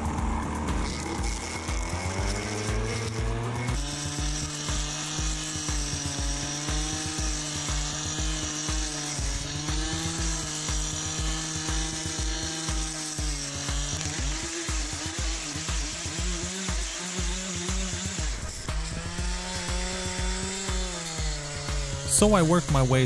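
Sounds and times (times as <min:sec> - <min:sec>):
background music with steady beat: 0:00.0 - 0:23.0
brush cutter engine at high revs: 0:00.0 - 0:23.0
blade chopping through dry canes: 0:00.7 - 0:22.9.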